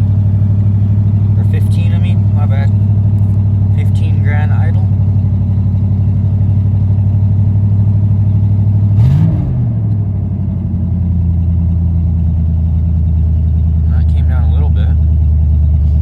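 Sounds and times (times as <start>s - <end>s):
engine throttle blip: 0.0s - 13.8s
engine idling: 0.0s - 16.0s.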